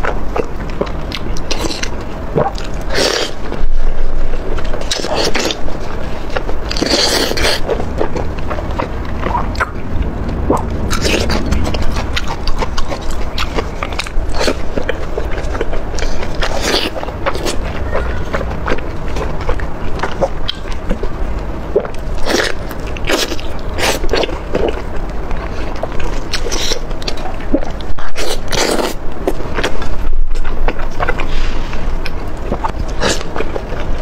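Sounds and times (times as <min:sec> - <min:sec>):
wet sticky chewing: 0:00.0 - 0:34.0.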